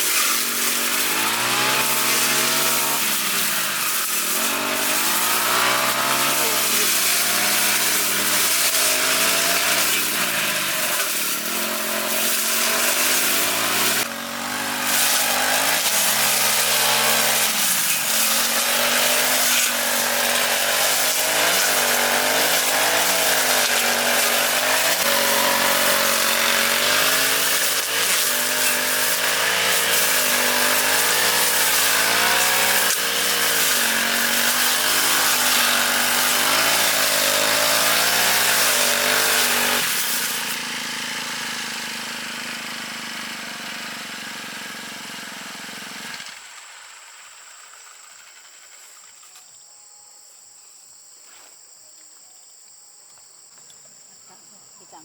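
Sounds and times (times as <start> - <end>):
lawn mower engine running: 0.0 - 47.5.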